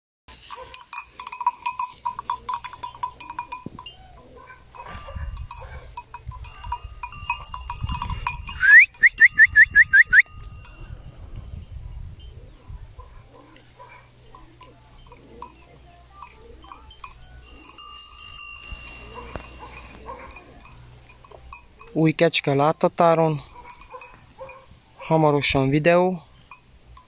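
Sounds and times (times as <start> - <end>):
goat bell clanking: 0.3 - 27.0.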